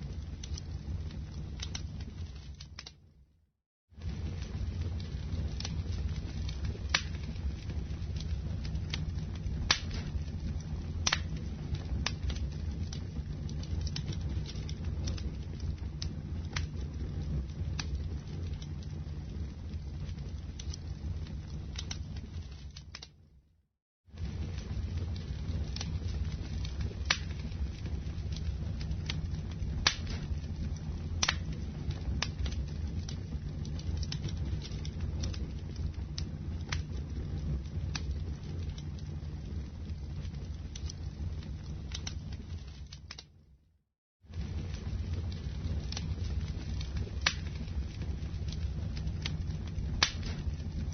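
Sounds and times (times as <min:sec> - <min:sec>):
fire crackling and popping: 0:00.0 - 0:03.3, 0:04.0 - 0:23.5, 0:24.1 - 0:43.6, 0:44.3 - 0:50.9.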